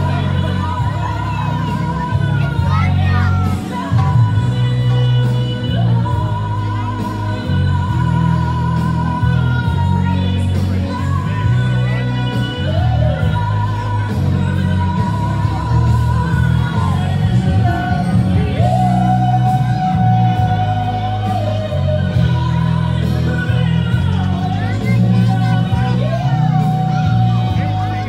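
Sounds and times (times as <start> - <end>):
heavy pulsing bass line: 0.0 - 28.0
person singing long notes: 0.0 - 28.0.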